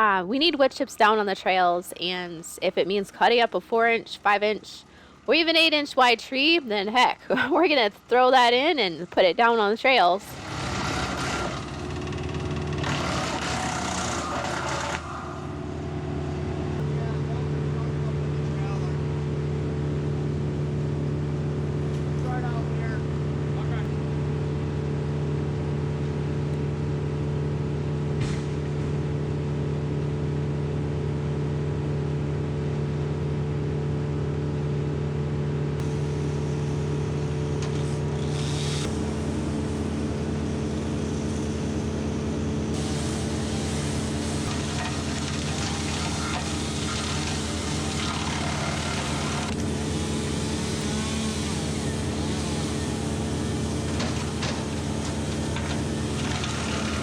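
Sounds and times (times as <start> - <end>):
wood chipper drone: 10.2 - 57.0.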